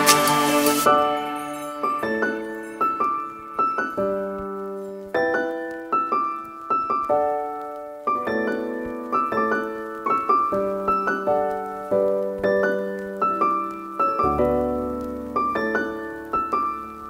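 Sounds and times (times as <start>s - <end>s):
calm solo piano music: 0.0s - 17.0s.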